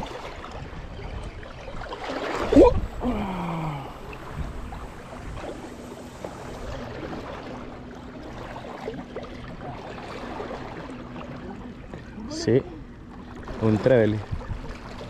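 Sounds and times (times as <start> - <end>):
seawater washing: 1.8 - 15.0
faint low drone: 2.5 - 15.0.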